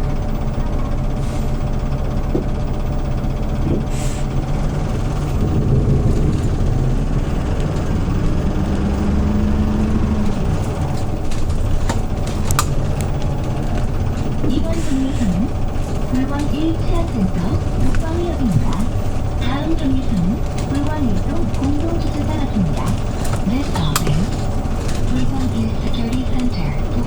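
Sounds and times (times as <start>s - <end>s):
bus engine running: 0.0s - 27.0s
sharp clicks: 4.4s - 27.0s.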